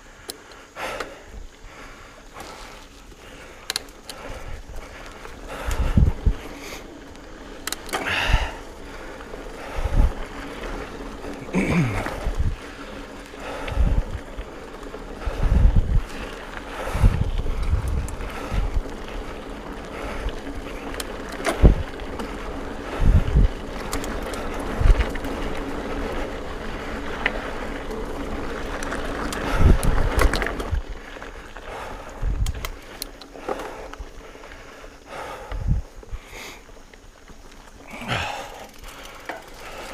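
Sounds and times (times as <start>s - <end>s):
bike tyres on dirt trail: 0.0s - 39.9s
bike thumping and rattling: 2.3s - 34.0s, 37.3s - 39.9s.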